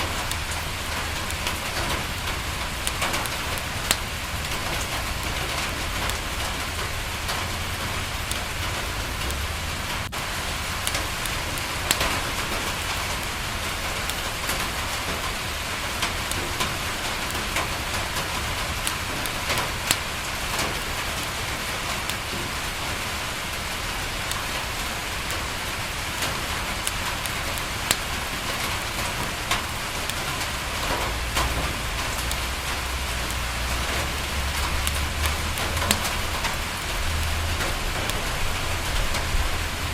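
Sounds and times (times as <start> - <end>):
sharp ticks and pops: 0.0 - 39.8
rain on a window: 0.0 - 39.9.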